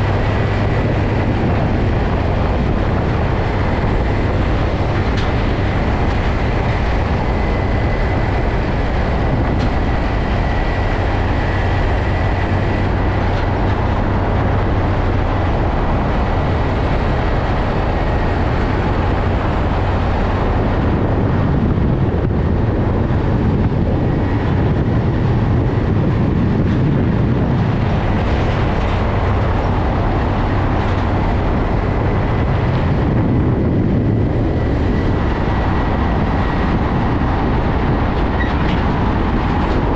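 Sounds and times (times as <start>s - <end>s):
truck highway driving rumble: 0.0s - 39.9s.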